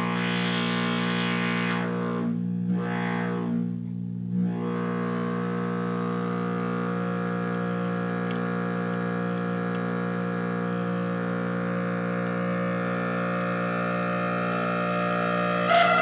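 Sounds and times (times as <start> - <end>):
buzzy synthesizer drone: 0.0 - 16.0.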